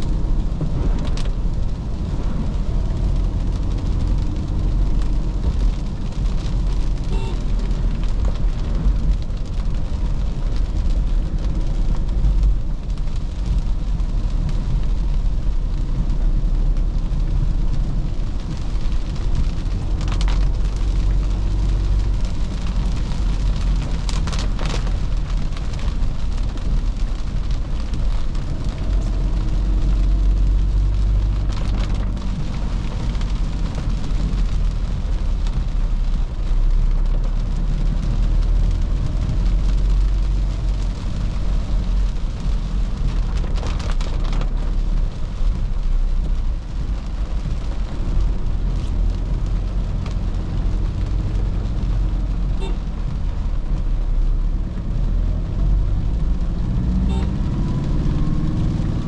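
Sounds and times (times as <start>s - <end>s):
diesel engine rumble while driving: 0.0s - 59.0s
tyres hissing on wet road: 0.0s - 59.0s.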